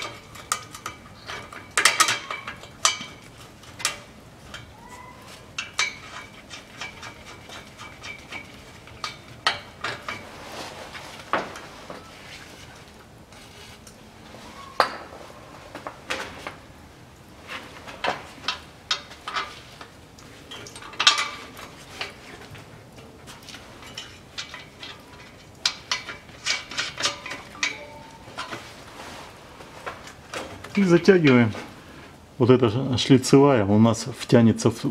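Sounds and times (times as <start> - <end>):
metal exhaust parts clinking: 0.0 - 13.9, 17.5 - 31.9.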